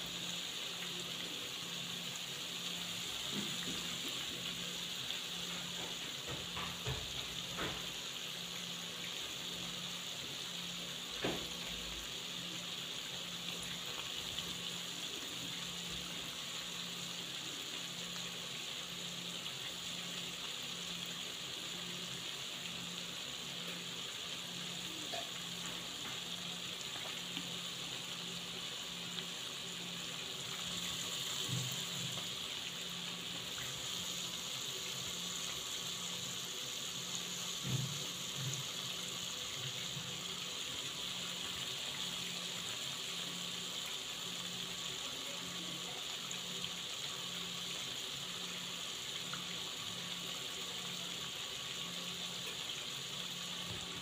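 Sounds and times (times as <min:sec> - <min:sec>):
dough sizzling in oil: 0:00.0 - 0:54.0.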